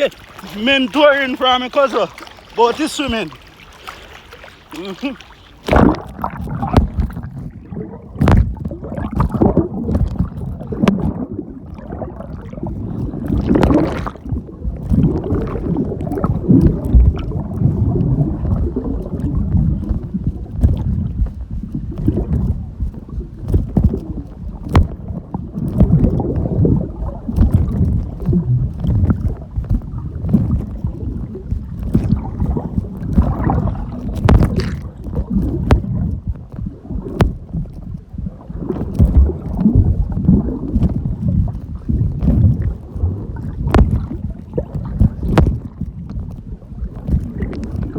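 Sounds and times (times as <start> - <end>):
water sloshing against microphone: 0.0 - 47.9.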